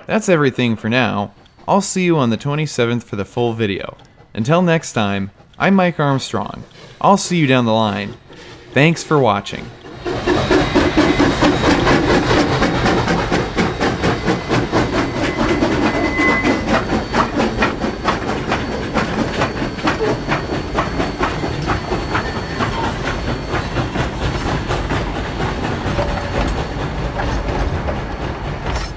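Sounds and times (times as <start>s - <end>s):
steam locomotive exhaust beating: 0.0s - 28.9s
train wheels clicking over rail joints: 0.0s - 28.9s.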